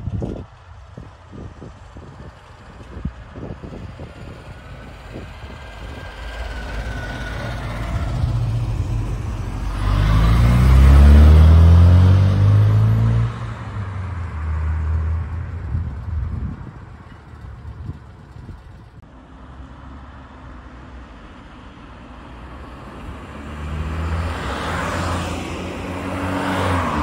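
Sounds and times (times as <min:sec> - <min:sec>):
car engine passing by: 0:04.4 - 0:18.6, 0:19.2 - 0:27.0.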